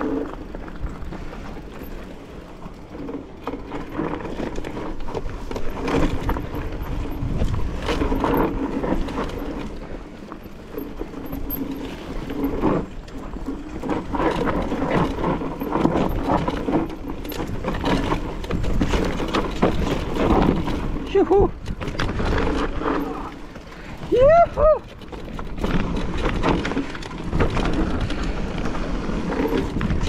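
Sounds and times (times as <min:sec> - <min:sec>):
bike parts rattling: 0:00.0 - 0:30.0
tyres on stony ground: 0:00.0 - 0:30.0.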